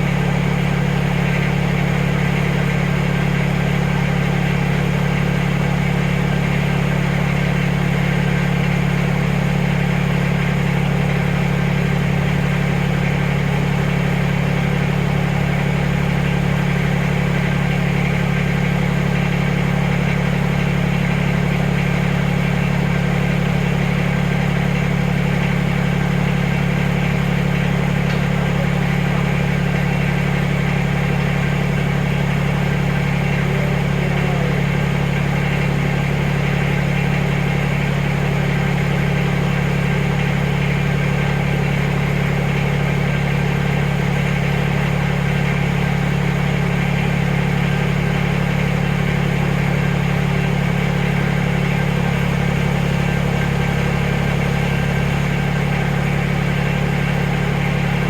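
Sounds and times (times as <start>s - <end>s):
farm machine engine running: 0.0s - 58.0s.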